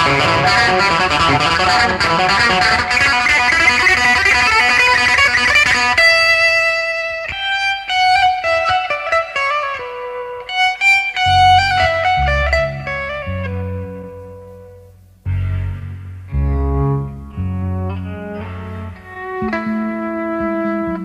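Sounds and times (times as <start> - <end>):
electric guitar solo: 0.0 - 21.0.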